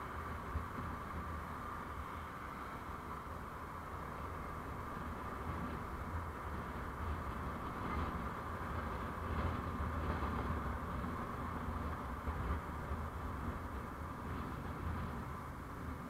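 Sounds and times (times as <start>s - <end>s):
vehicle road and engine noise: 0.0s - 16.0s.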